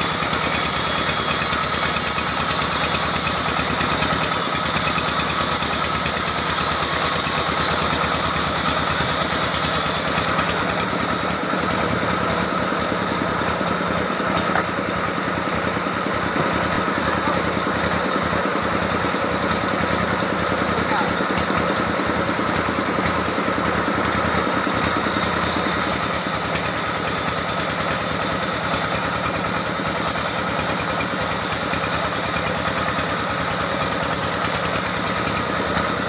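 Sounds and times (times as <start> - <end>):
saw engine cutting timber: 0.0 - 36.0.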